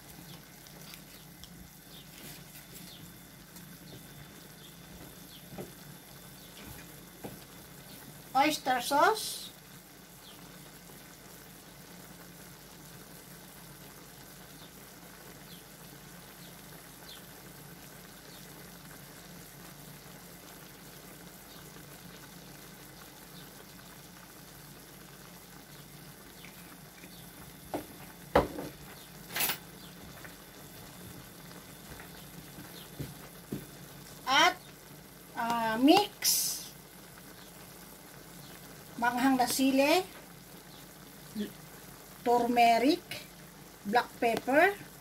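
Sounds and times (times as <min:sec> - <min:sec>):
chicken sizzling in a wok: 0:00.0 - 0:45.0.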